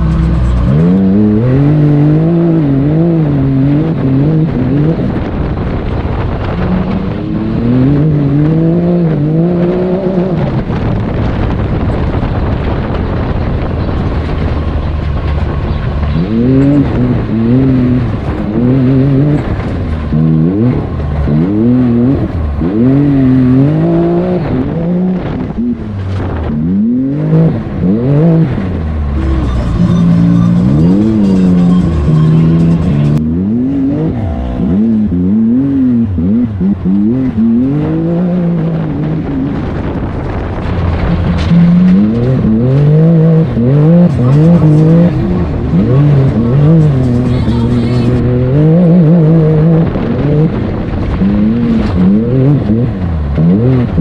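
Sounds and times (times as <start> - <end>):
engine revving: 0.0 - 54.0
tyre and dirt noise: 0.0 - 54.0.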